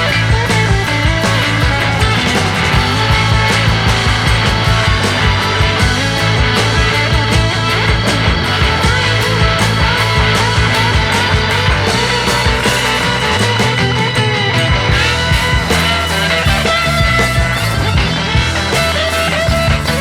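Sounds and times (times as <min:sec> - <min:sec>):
rock music with electric guitar: 0:00.0 - 0:20.0.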